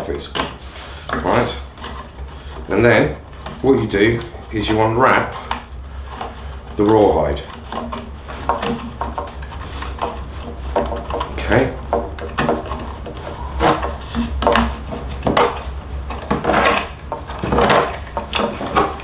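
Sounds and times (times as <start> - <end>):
rawhide lacing scraping on drum: 0.0 - 19.0
steady low hum: 0.0 - 19.0.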